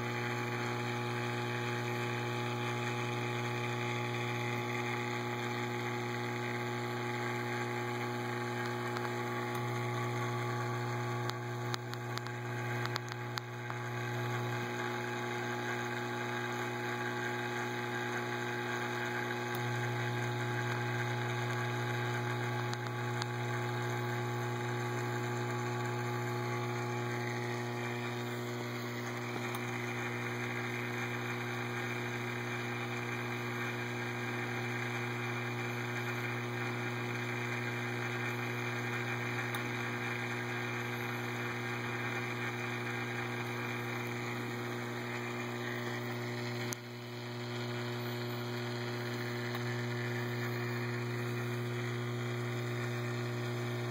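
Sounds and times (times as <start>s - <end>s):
aquarium pumps humming: 0.0s - 35.6s, 36.8s - 53.9s
low mains hum: 0.0s - 53.9s.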